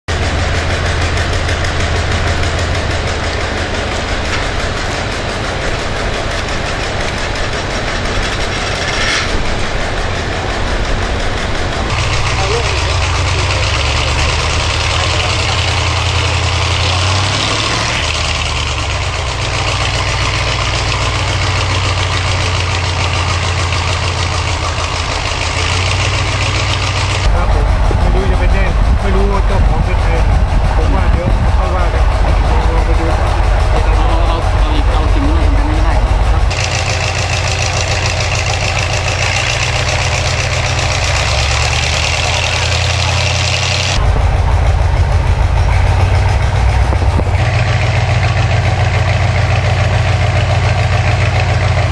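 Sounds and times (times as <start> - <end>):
large engine humming: 0.0 - 51.9
high whine: 0.1 - 51.9.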